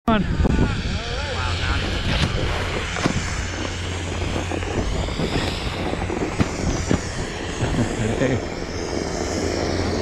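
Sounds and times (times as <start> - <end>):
steady low rumble: 0.1 - 10.0
wind rushing over microphone: 0.1 - 10.0.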